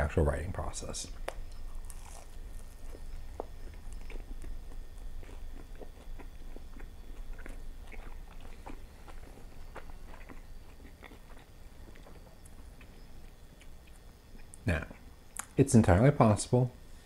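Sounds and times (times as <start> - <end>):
crunchy chewing: 1.2 - 15.6.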